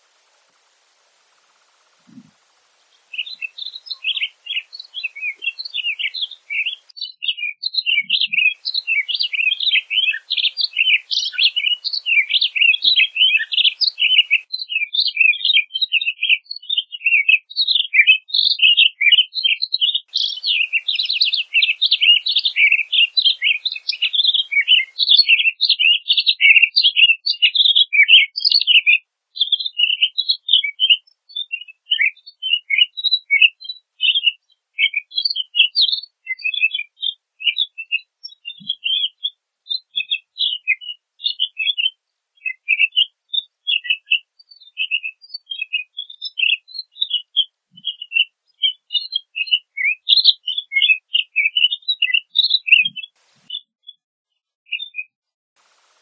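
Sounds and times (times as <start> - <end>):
bird singing high chirping warbles: 0.0 - 54.0, 54.7 - 56.0.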